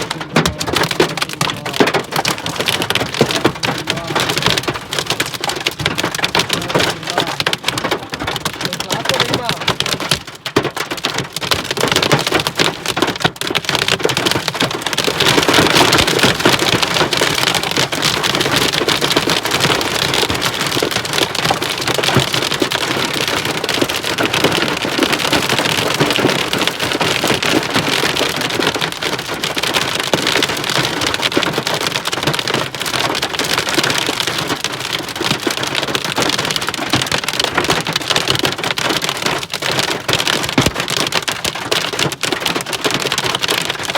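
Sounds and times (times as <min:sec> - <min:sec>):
heavy rain on hard surfaces: 0:00.0 - 0:43.9.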